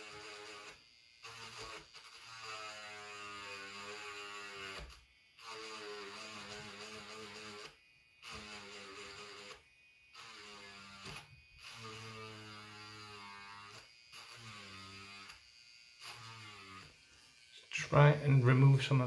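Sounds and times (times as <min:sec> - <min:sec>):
grinding pen motor whining: 0:00.0 - 0:19.0.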